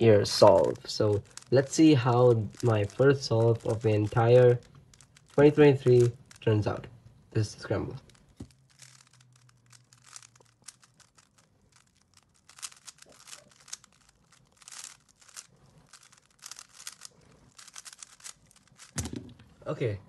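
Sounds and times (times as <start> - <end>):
puzzle cube clicking: 0.0 - 19.6.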